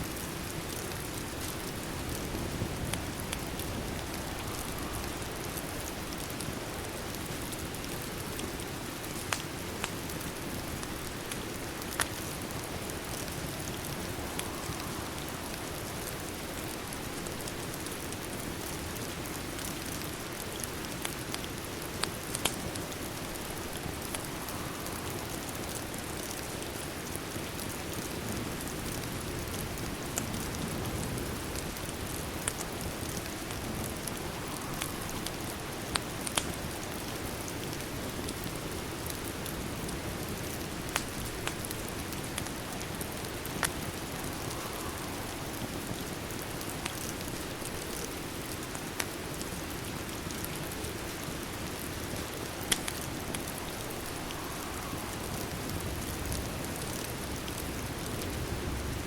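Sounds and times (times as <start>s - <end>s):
steady rain hiss: 0.0s - 59.0s
wood fire crackling: 0.0s - 59.0s.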